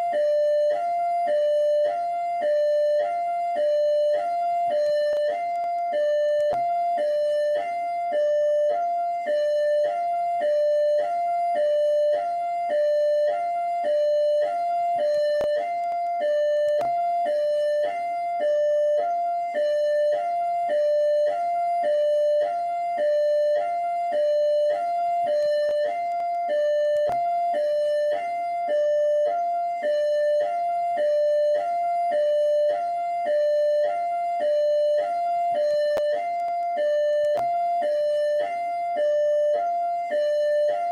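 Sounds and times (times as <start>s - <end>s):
police siren hi-lo tone: 0.0s - 40.9s.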